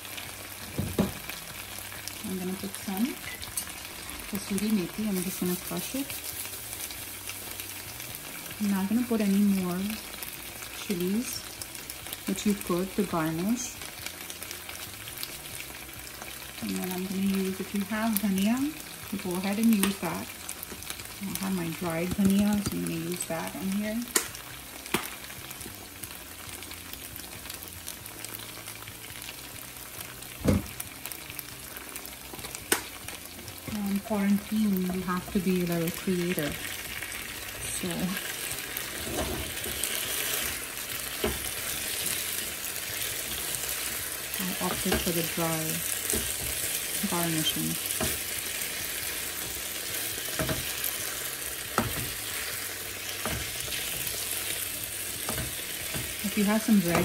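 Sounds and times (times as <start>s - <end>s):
potatoes sizzling in oil: 0.0s - 57.0s.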